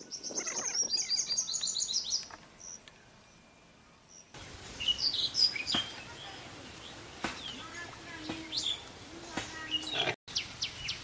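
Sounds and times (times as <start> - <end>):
scattered bird chirps: 0.0 - 11.0
songbird singing descending chirps: 0.0 - 11.0.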